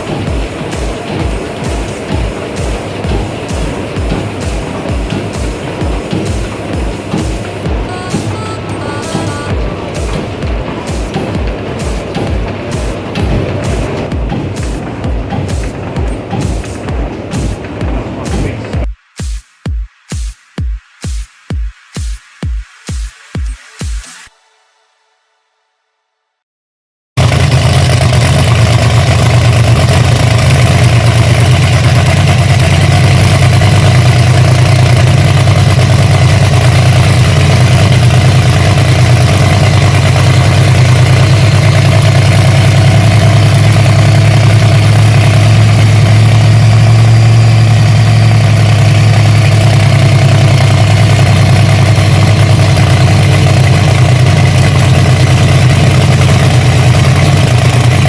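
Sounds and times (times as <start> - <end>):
engine idling: 0.0 - 18.9, 27.2 - 58.0.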